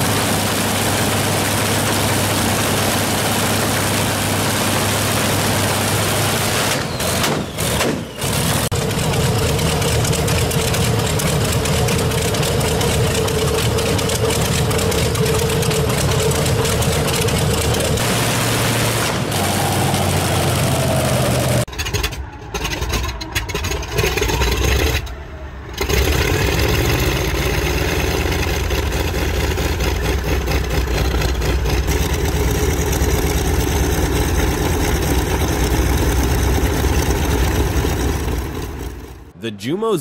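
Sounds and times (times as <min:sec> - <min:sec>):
propliner engines rumbling: 0:00.0 - 0:40.0
radial engine running: 0:00.0 - 0:40.0.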